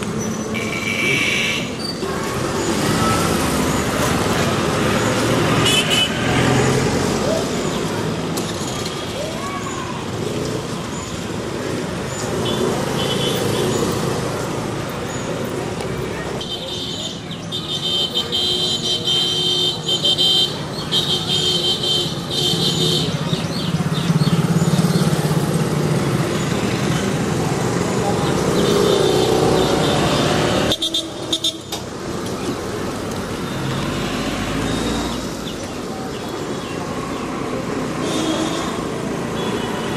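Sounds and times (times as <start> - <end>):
crowd of indistinct voices: 0.0 - 39.9
scooters and motorcycles passing: 0.0 - 39.9
traffic: 0.0 - 39.9.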